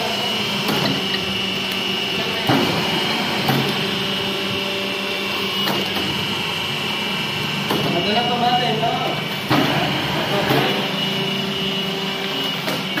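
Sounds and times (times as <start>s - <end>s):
constant high whine: 0.0s - 13.0s
machine motor hum: 0.0s - 13.0s.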